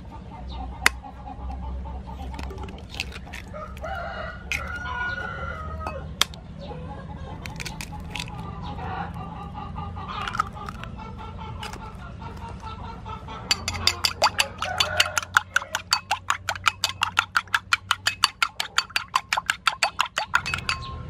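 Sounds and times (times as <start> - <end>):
chickens clucking: 0.0 - 21.0
eggshells cracking on a bowl: 2.1 - 6.5, 7.3 - 9.3, 10.1 - 21.0.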